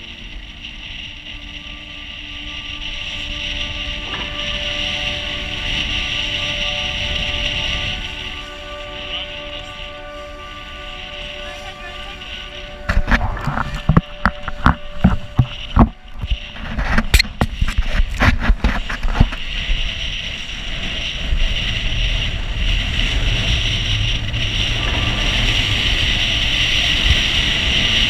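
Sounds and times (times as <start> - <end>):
water rushing along boat hull: 0.0 - 28.0
wind on microphone: 0.0 - 28.0.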